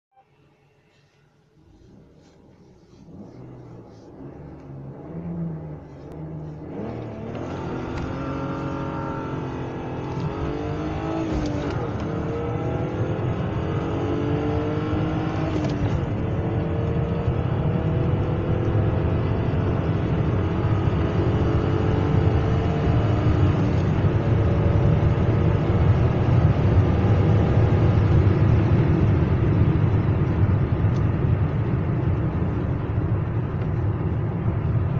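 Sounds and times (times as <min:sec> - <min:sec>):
road and wind noise: 0:01.5 - 0:34.9
car engine accelerating: 0:01.6 - 0:34.9.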